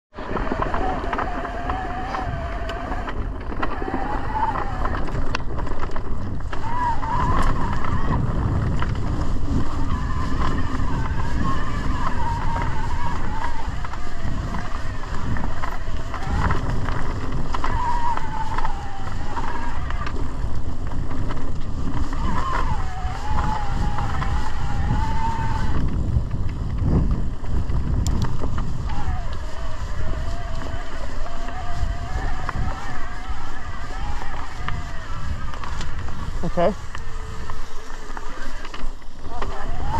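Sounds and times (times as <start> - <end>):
tyres and wind rumbling: 0.1 - 39.9
wavering hum: 0.1 - 39.9.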